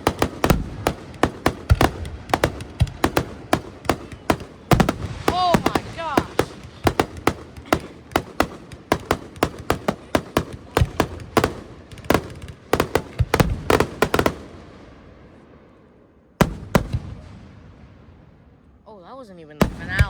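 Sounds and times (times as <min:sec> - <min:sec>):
fireworks bursting with echoes: 0:00.0 - 0:18.8, 0:19.6 - 0:20.0.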